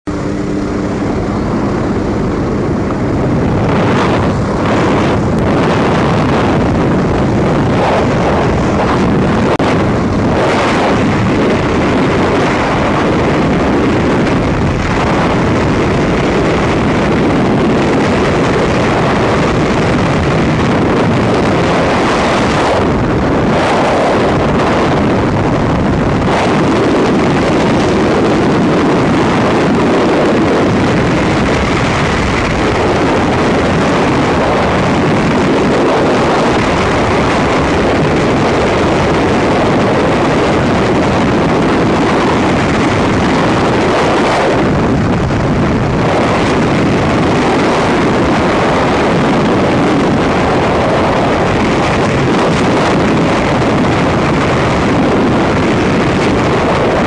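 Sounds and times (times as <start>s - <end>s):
airplane engine hum: 0.0s - 57.0s
wind rushing over microphone: 0.0s - 57.0s.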